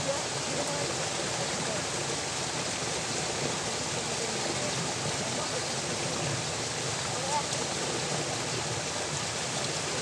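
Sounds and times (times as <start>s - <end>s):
water flowing in a channel: 0.0s - 10.0s.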